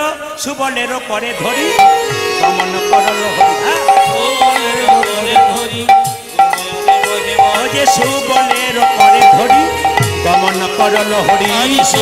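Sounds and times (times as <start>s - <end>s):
person singing: 0.1s - 12.0s
repeated high melodic note: 1.6s - 12.0s
hand drums with bending bass: 1.8s - 12.0s.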